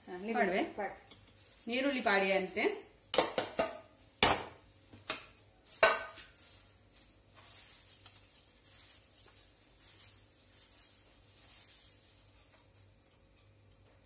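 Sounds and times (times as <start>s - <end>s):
fried onions rustling in pan: 0.1s - 3.2s, 3.8s - 14.0s.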